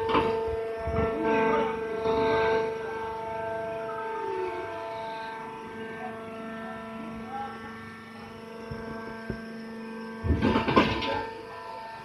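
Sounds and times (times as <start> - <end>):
baler machine humming: 0.0 - 12.0.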